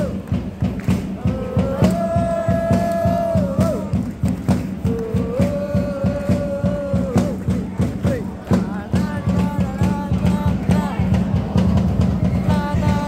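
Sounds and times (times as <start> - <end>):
background music with quick beat: 0.0 - 13.0.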